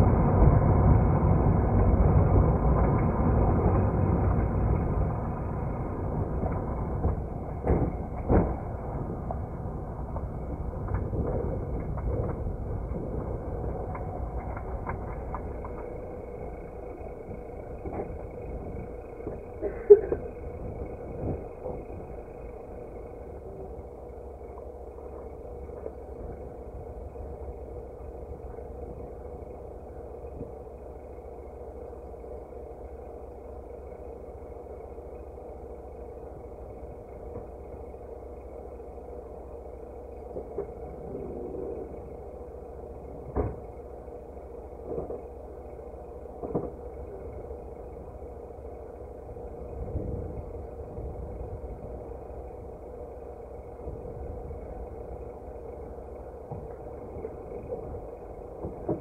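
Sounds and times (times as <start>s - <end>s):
faint steady hum: 0.0s - 59.0s
vehicle engine rumbling: 0.0s - 59.0s.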